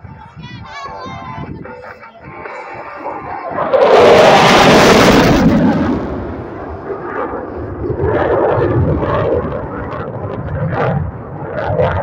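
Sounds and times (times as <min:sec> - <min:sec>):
jet engine rumble: 0:01.3 - 0:12.0.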